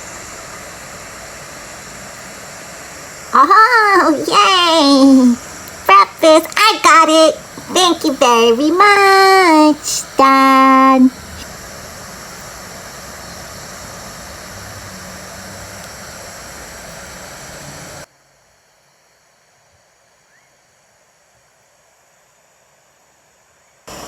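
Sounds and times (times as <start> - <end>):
faint hiss: 0.0 - 24.0.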